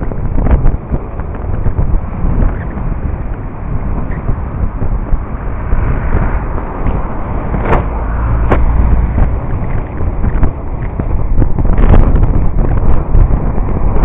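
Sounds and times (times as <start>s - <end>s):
road rumble: 0.0s - 14.0s
vehicle engine and tyres rumbling: 0.0s - 14.0s
wind rush on microphone: 0.0s - 14.0s.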